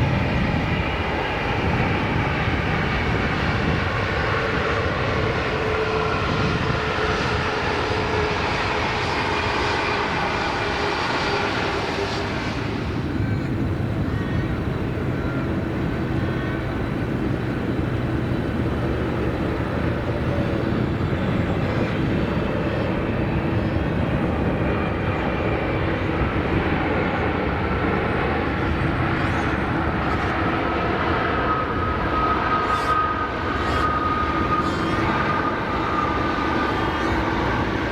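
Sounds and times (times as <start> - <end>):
high jet whine: 0.0 - 37.9
jet engine roar: 0.0 - 37.9.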